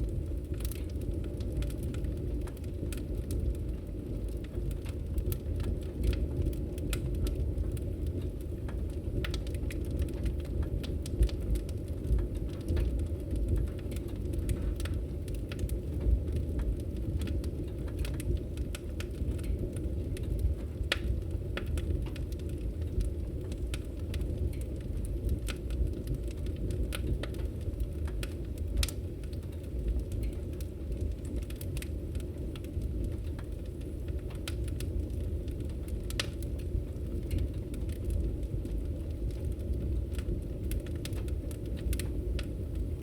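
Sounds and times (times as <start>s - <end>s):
fire crackles and pops: 0.0s - 43.0s
low rumble of fire flames: 0.0s - 43.0s.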